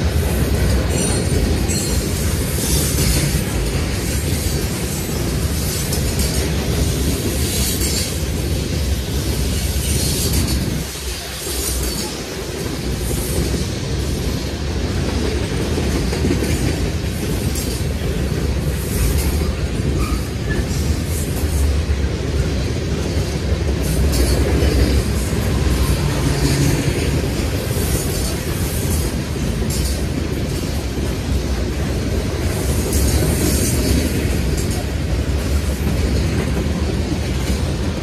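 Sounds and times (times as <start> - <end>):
train wheels rumbling on rail: 0.0 - 38.0
wheels clacking on rail joints: 0.0 - 38.0.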